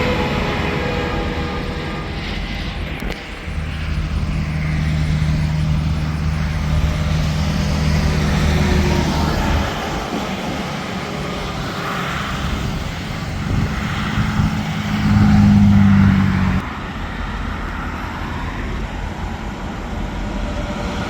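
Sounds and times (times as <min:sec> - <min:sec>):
traffic passing at speed: 0:00.0 - 0:21.0
truck engine low drone: 0:00.0 - 0:21.0.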